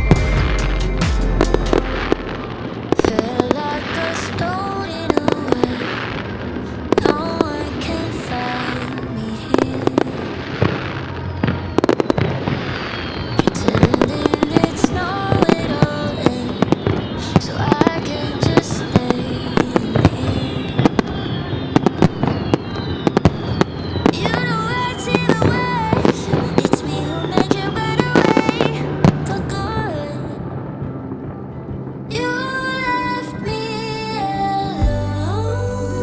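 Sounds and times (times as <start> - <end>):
background song: 0.0 - 22.7, 24.1 - 36.0.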